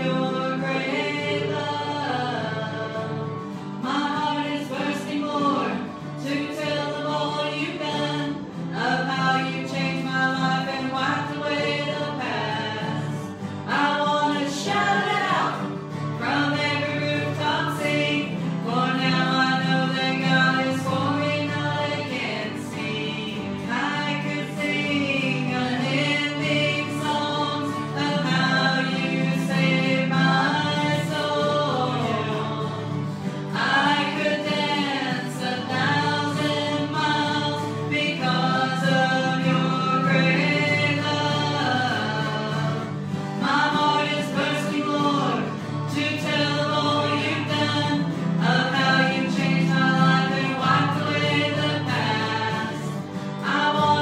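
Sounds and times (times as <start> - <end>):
acoustic guitar: 0.0 - 54.0
woman singing into a microphone: 0.0 - 54.0.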